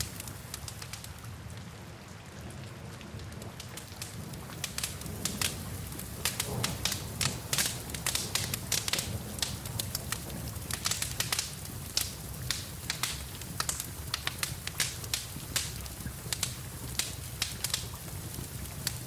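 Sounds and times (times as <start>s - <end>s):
wood fire crackling and popping: 0.0s - 1.7s, 3.2s - 19.0s
steady rain: 0.0s - 19.0s.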